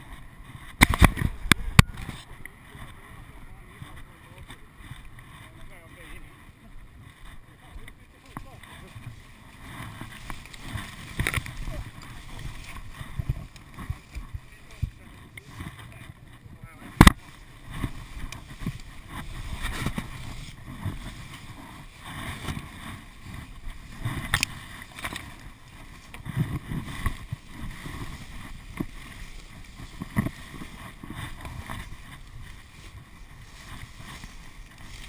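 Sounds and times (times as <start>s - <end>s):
rustling of long grass: 0.0s - 35.0s.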